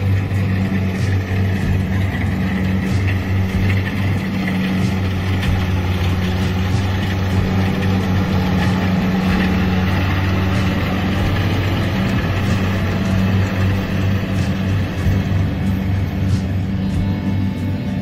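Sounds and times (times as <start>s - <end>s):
combine harvester engine humming: 0.0s - 18.0s.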